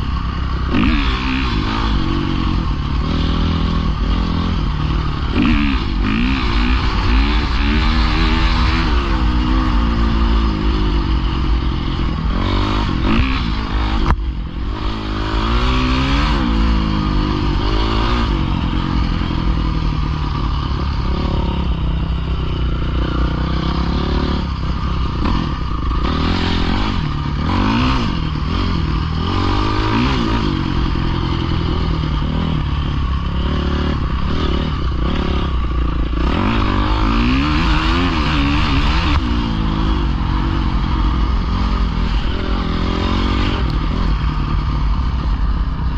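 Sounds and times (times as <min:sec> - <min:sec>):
pit bike engine revving: 0:00.0 - 0:45.9.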